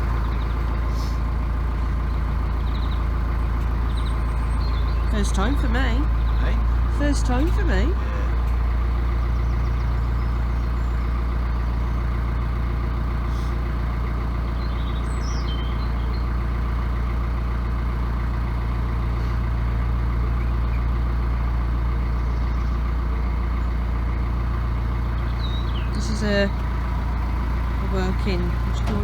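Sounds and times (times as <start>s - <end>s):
diesel boat engine humming: 0.0s - 29.0s.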